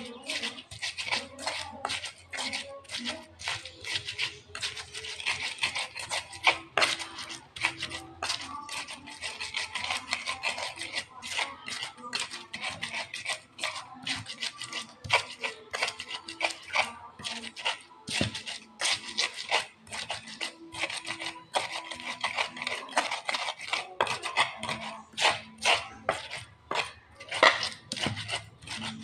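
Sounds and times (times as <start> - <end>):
stone pestle grinding in mortar: 0.0 - 29.0.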